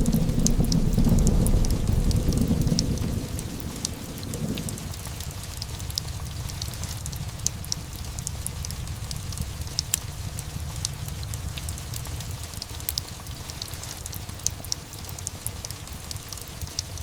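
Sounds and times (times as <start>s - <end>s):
crackling fireplace: 0.0s - 17.0s
steady rain: 0.0s - 17.0s.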